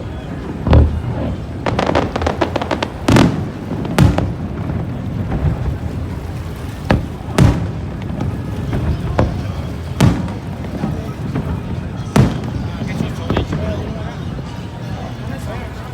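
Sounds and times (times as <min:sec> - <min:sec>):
fireworks crackling pops: 0:00.0 - 0:14.0
loud fireworks bangs: 0:00.0 - 0:14.3.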